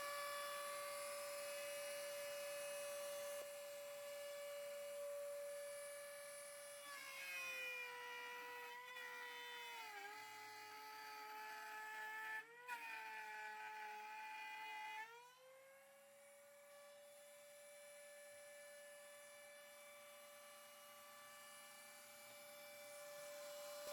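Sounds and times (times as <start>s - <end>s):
power tool motor cutting wood: 0.0s - 23.9s.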